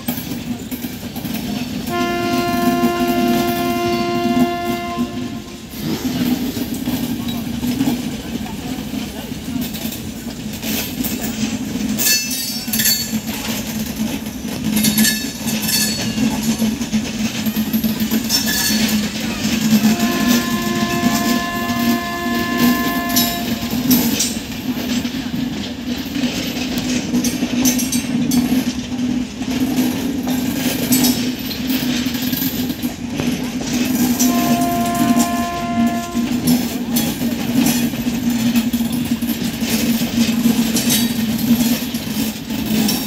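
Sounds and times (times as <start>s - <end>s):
train coaches rumbling on rails: 0.0s - 43.0s.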